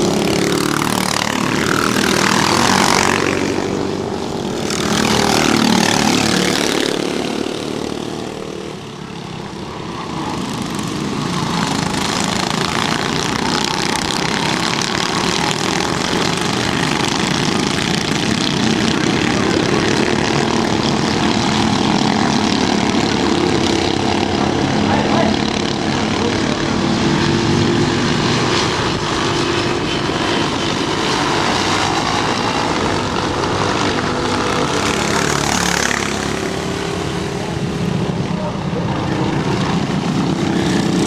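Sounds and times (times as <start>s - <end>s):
racing kart engines at high revs: 0.0s - 41.0s.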